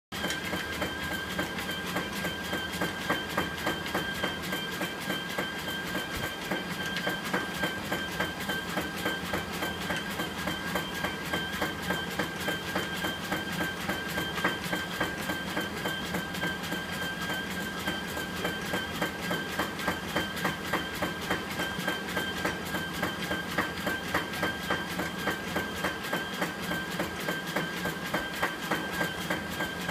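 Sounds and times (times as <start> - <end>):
treadmill motor whine: 0.1 - 29.9
paws striking treadmill belt: 0.2 - 29.9.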